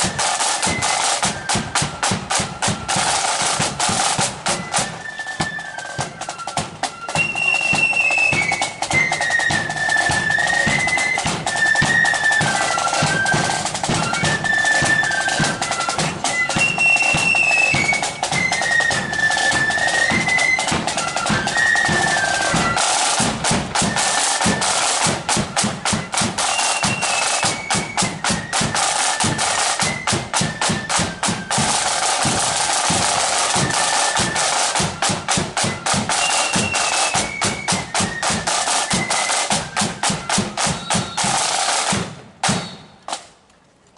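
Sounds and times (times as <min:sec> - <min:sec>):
flutes playing melody: 0:00.0 - 0:43.1
snare and bass drums: 0:00.0 - 0:43.4.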